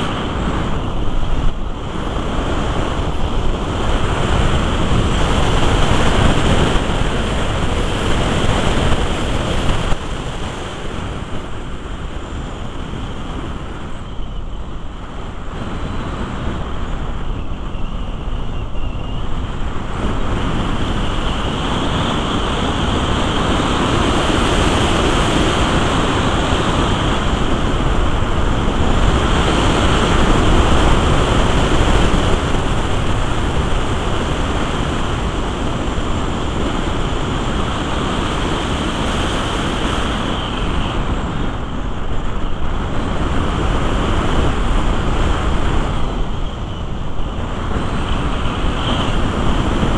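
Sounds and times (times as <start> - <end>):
rushing airflow: 0.0 - 49.9
wind buffeting camera: 0.0 - 49.9.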